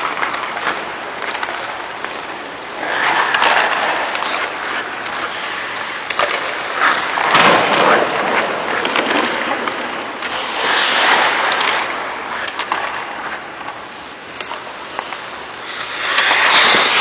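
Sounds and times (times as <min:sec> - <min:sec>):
skate blades scraping ice: 0:00.0 - 0:17.0.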